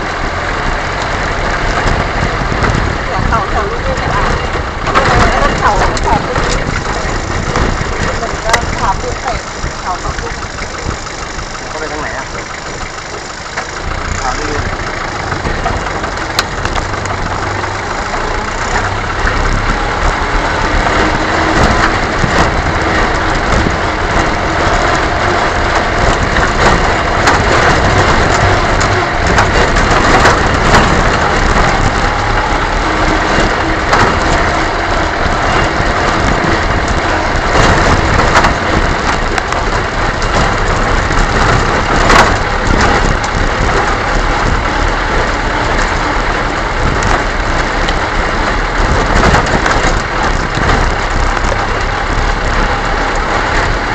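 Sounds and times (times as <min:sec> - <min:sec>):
tyres crunching on dirt: 0:00.0 - 0:53.9
vehicle engine running: 0:00.0 - 0:53.9
vehicle rattles and knocks: 0:00.0 - 0:53.9.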